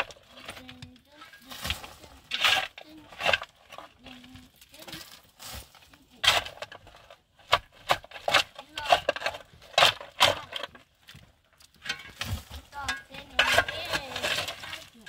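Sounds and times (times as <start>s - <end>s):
digging tool striking earth: 0.0s - 10.8s, 11.7s - 15.0s.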